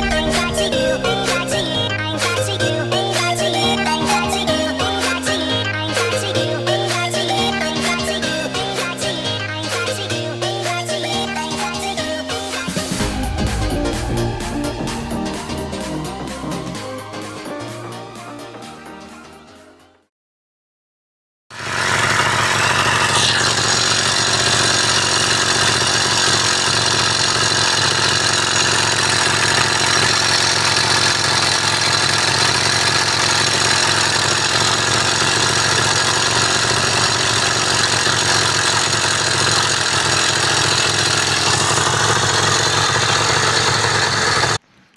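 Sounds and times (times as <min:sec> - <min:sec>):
small two-stroke engine idling: 0:00.0 - 0:16.4, 0:21.5 - 0:44.9.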